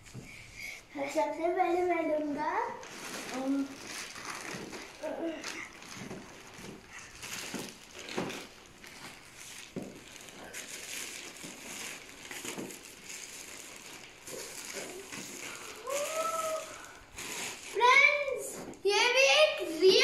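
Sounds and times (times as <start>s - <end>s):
plastic bag rustling and crinkling: 1.0s - 20.0s.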